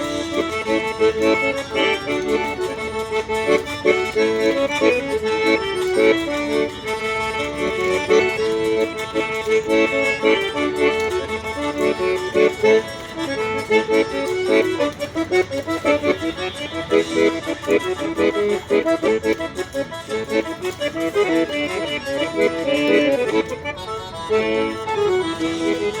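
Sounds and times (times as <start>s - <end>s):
accordion playing folk music: 0.0s - 26.0s.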